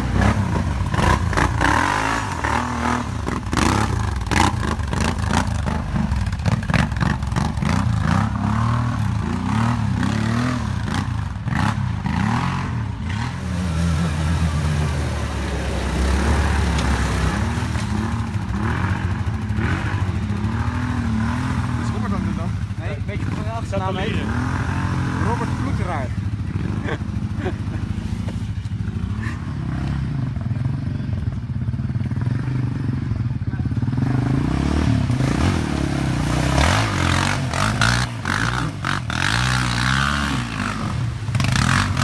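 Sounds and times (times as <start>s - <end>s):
quad bike engines revving: 0.0s - 42.0s.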